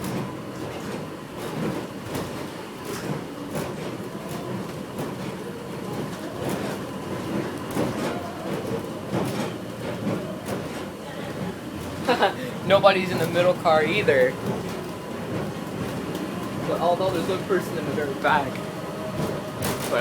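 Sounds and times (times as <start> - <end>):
train rumble from inside: 0.0 - 20.0.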